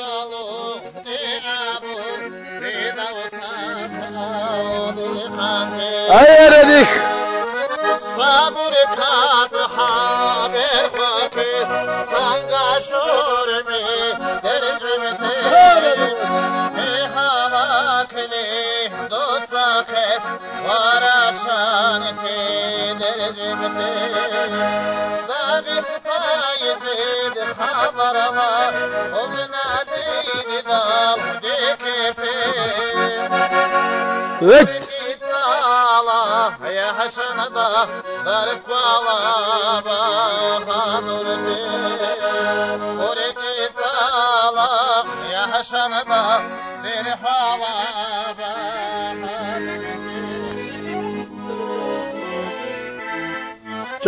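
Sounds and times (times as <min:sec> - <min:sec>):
accordion folk melody: 0:00.0 - 0:54.0.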